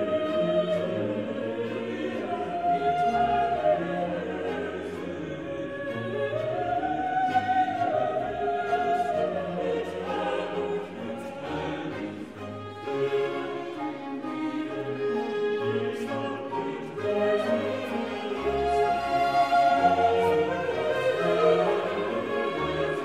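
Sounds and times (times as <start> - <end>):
choir singing held notes: 0.0 - 23.0.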